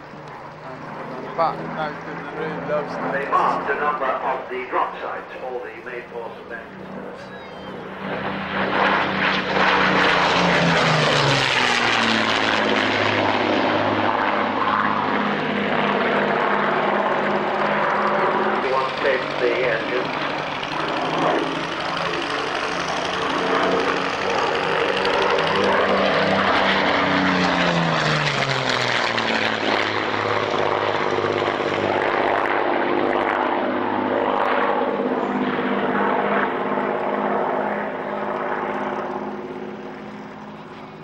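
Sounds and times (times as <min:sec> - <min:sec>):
propeller aircraft flying past: 0:00.0 - 0:41.0.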